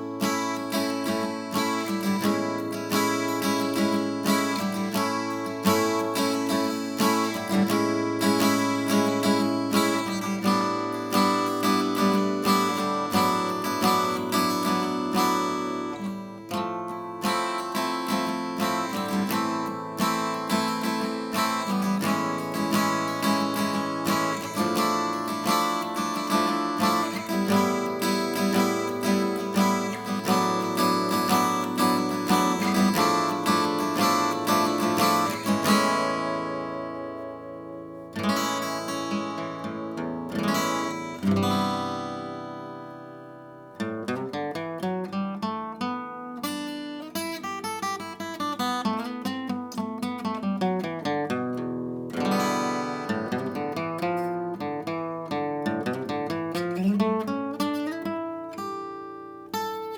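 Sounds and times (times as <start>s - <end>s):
acoustic guitar strummed chords: 0.0s - 59.9s.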